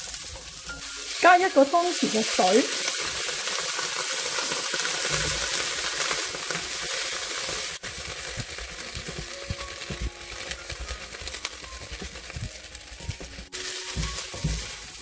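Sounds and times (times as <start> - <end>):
onions sizzling in frying pan: 0.0 - 15.0.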